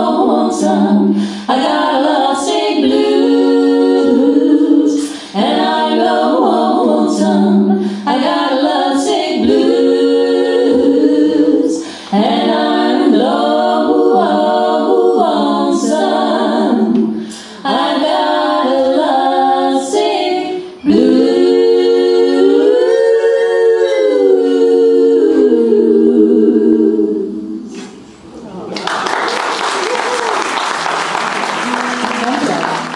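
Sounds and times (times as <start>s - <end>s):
women singing in close harmony: 0.0s - 28.0s.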